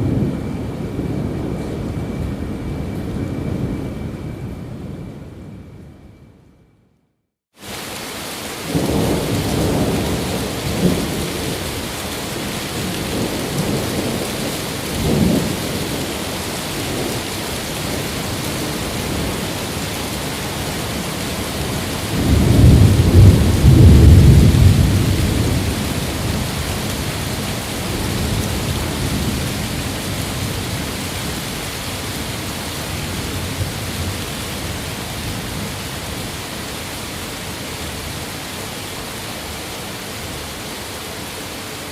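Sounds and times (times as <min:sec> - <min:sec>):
heavy rain: 0:00.0 - 0:05.6, 0:07.5 - 0:41.9
rolling thunder: 0:00.0 - 0:06.4, 0:08.5 - 0:36.4.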